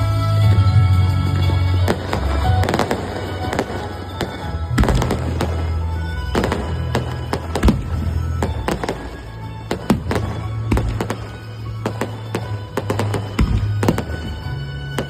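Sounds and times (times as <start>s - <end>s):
fireworks bursting with sharp bangs: 0.0s - 15.0s
music playing: 0.0s - 15.0s.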